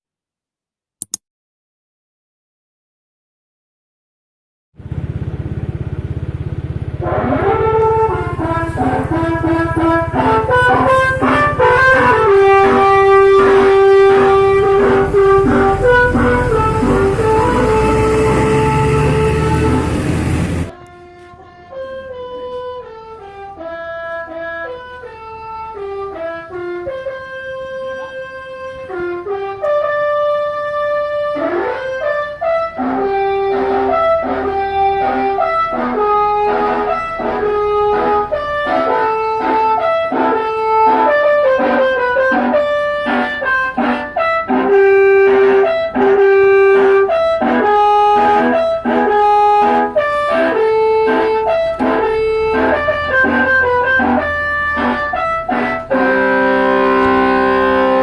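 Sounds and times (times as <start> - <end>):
musical air horn playing a tune: 7.0 - 58.0.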